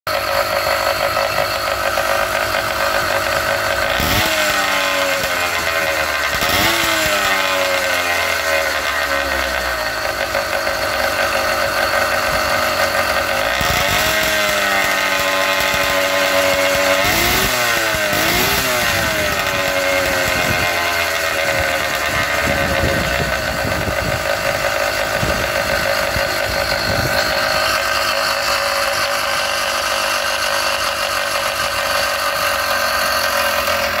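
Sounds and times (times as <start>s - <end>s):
two-stroke engine idling and revving: 0.0s - 34.0s.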